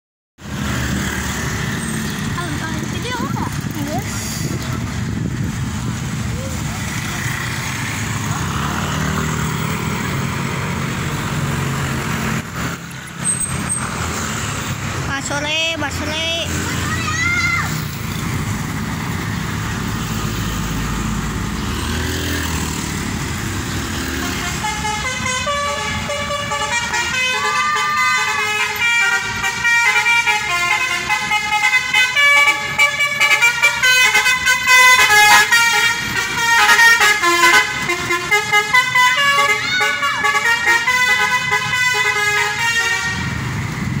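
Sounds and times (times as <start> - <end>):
street traffic rumble: 0.4 - 44.0.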